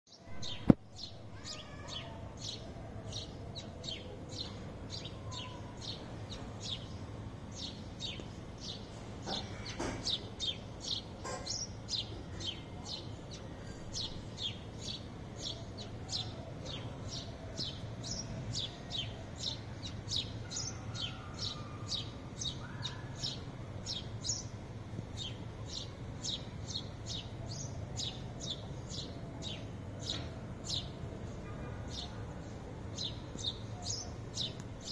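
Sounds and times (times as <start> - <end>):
sparrows chirping: 0.1 - 34.9.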